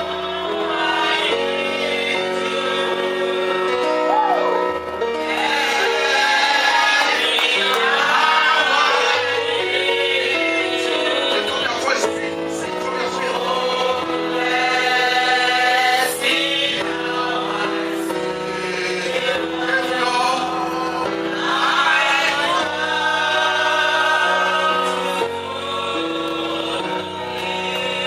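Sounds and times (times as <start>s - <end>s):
gospel choir singing with instruments: 0.0s - 28.0s.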